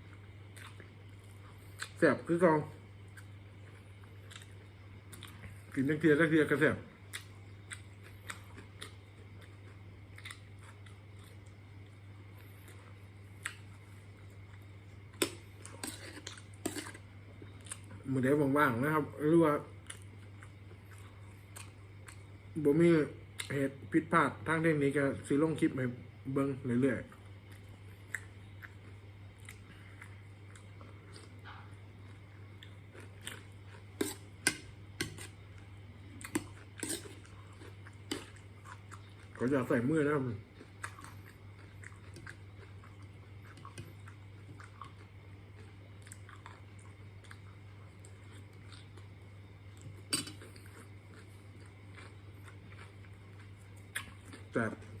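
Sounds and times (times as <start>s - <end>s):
person chewing crunchy food: 0.0s - 2.0s, 3.0s - 5.8s, 7.1s - 11.6s, 12.2s - 18.1s, 19.8s - 22.5s, 27.1s - 55.0s
steady low hum: 0.0s - 55.0s.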